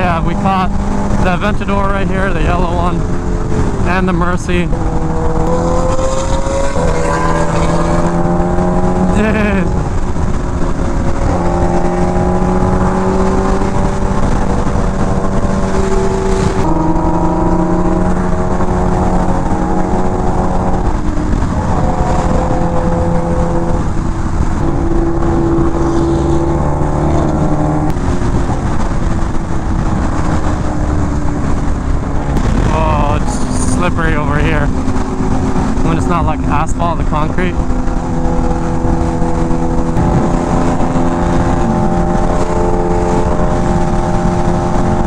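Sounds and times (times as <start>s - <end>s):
motorcycle engine: 0.0s - 45.0s
wind rush: 0.0s - 45.0s.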